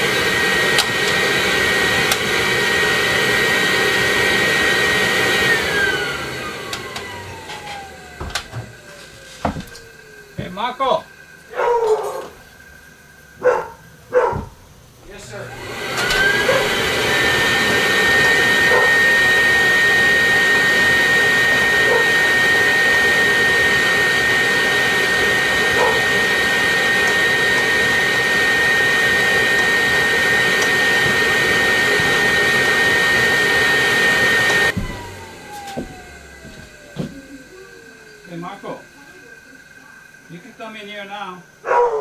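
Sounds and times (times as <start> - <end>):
vacuum motor whining: 0.0 - 42.0.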